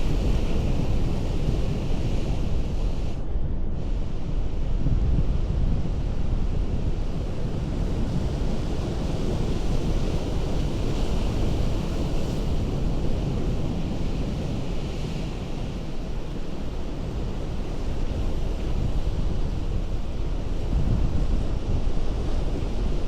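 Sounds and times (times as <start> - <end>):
ocean surf on rocks: 0.0 - 23.0
wind rumble on microphone: 0.0 - 23.0.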